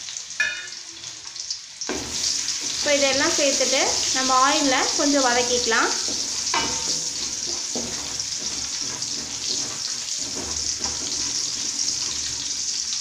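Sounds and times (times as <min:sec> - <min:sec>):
hot oil sizzling: 0:00.0 - 0:13.0
wooden spatula scraping a pan: 0:01.9 - 0:13.0.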